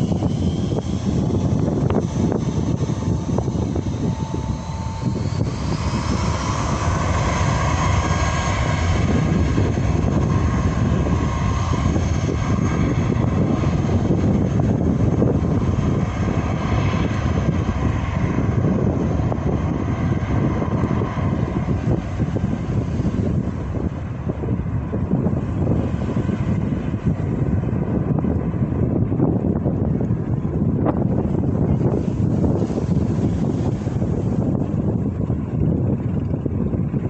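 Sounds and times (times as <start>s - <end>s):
jet engines spooling up: 0.0s - 37.0s.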